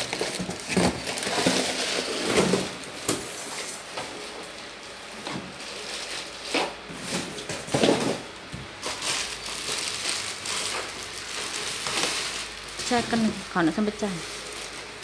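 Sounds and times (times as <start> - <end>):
plastic wrapping rustling: 0.0 - 15.0.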